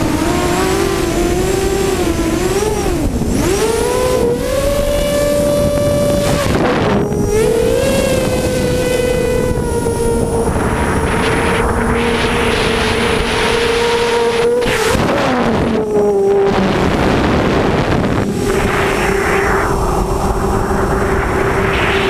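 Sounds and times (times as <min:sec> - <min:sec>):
drone motors whining: 0:00.0 - 0:22.0
wind rush: 0:00.0 - 0:22.0.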